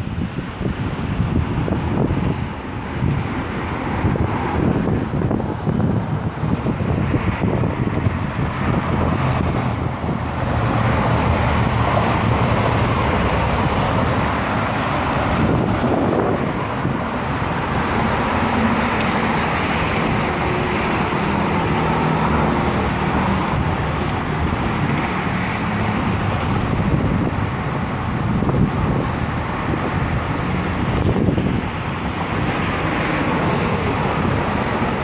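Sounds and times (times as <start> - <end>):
cars driving past: 0.0 - 35.0.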